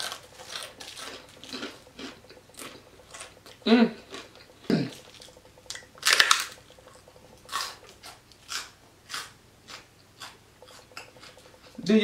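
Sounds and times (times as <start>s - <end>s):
chewing crunchy fried pork skin: 0.0s - 11.8s.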